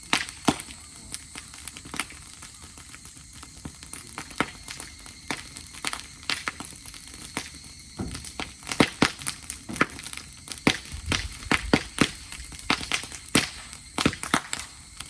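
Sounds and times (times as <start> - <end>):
grass fire crackling: 0.0 - 15.0.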